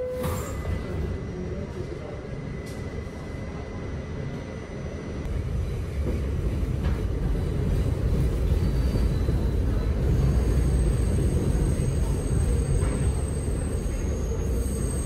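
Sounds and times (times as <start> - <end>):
subway wheels rumbling on rail: 0.0 - 15.0.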